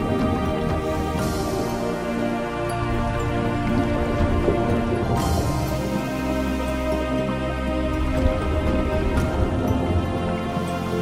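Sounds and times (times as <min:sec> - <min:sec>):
music of sustained chords: 0:00.0 - 0:11.0.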